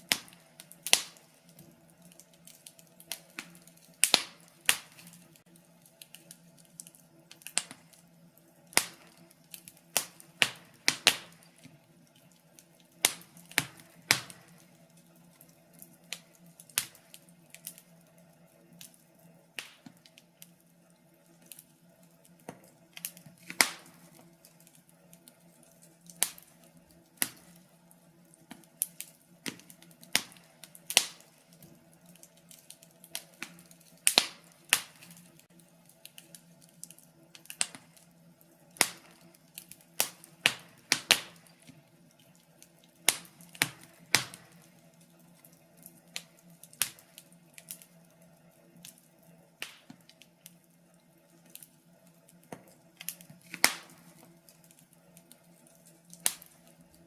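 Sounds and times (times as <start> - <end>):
faint steady hum: 0.0 - 57.0
wood fire crackling: 0.0 - 57.0.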